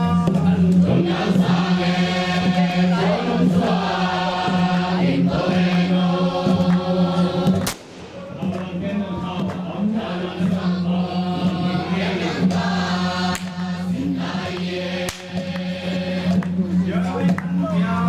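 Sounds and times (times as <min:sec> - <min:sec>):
group of voices chanting: 0:00.0 - 0:17.4.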